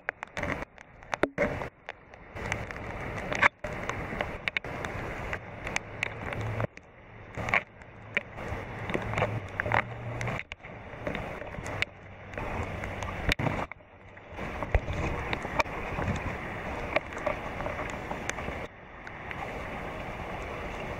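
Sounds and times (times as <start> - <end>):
raindrops tapping on camera: 0.0 - 20.9
steady rain falling: 0.0 - 20.9
wind rumble on microphone: 0.0 - 20.9.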